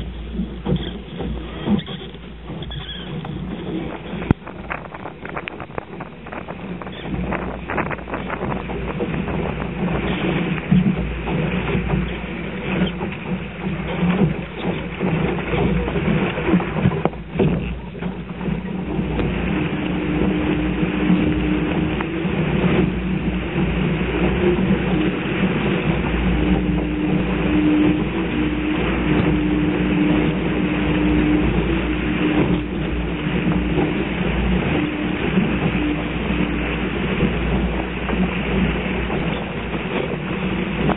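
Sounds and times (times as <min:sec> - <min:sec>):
low steady hum: 0:00.0 - 0:40.9
water rushing along hull: 0:00.0 - 0:40.9
wind buffeting microphone: 0:00.0 - 0:40.9.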